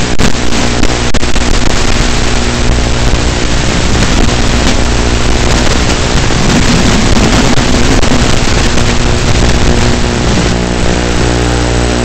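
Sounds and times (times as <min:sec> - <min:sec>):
low electric motor hum: 0:00.0 - 0:12.0
wind rush hiss: 0:00.0 - 0:12.0.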